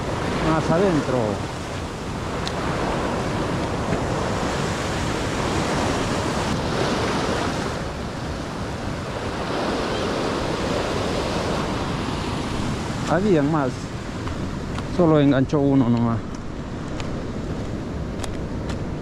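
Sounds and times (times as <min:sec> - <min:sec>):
ocean surf breaking on rocks: 0:00.0 - 0:19.0.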